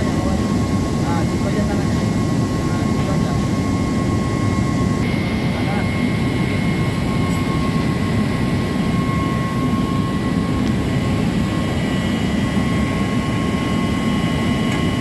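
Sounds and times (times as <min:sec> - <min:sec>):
machinery droning with whine: 0:00.0 - 0:15.0.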